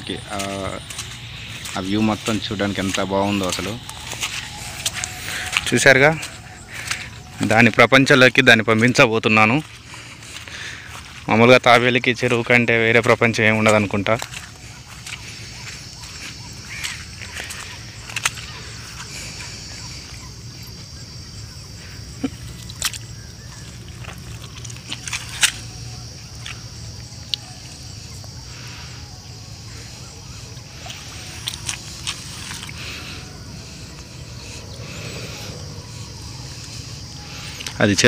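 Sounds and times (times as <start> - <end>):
high-pitched insect hum: 0.0 - 38.0.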